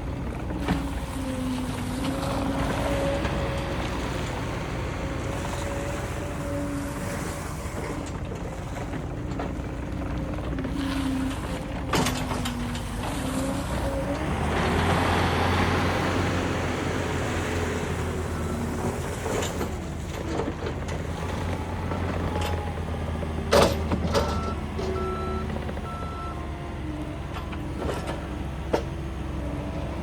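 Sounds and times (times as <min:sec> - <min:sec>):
skid steer diesel engine: 0:00.0 - 0:30.0.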